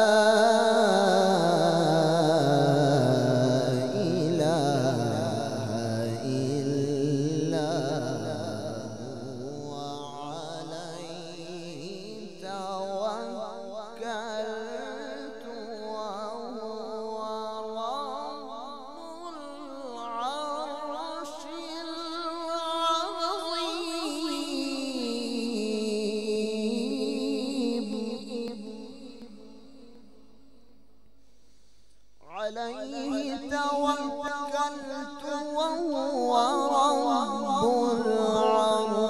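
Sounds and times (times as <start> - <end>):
man reciting melodically: 0.0 - 30.6, 32.2 - 39.0.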